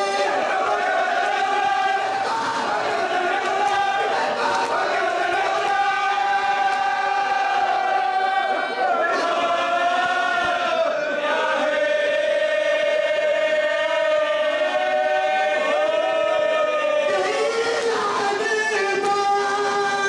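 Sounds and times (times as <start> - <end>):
lead reciter chanting: 0.0 - 20.0
men chanting in unison: 0.0 - 20.0.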